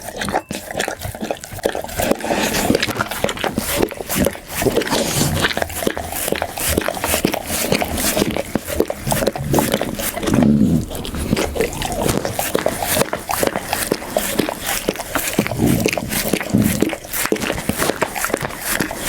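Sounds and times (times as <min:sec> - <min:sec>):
dog chewing food: 0:00.0 - 0:19.0.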